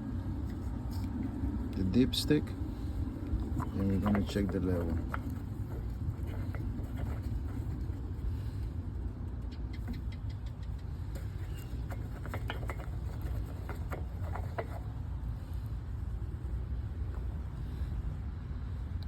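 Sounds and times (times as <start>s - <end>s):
generator low rumble: 0.0s - 19.0s.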